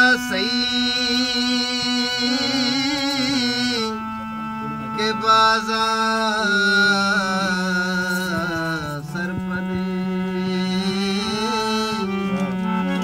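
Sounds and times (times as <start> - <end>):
harmonium drone: 0.0 - 13.0
man singing: 0.0 - 13.0.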